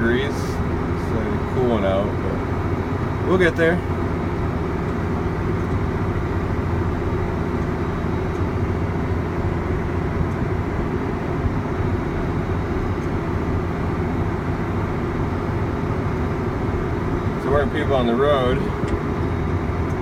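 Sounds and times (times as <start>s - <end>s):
tractor engine and road drone: 0.0s - 20.0s.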